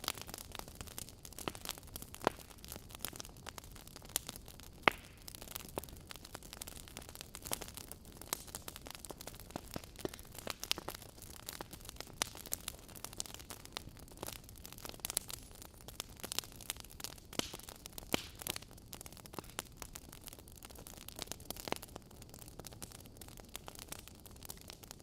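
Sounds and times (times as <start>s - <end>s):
logs crackling and popping: 0.0s - 25.0s.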